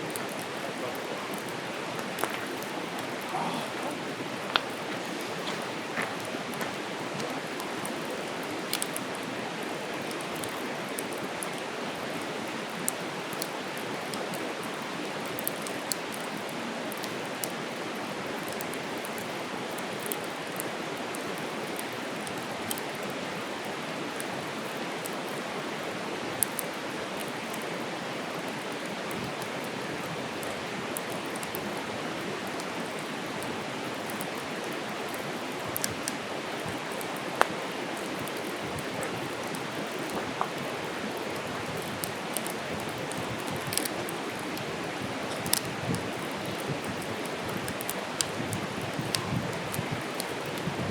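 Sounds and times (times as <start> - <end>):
hiss of campfire flames: 0.0 - 50.9
wood crackling and popping: 0.0 - 50.9.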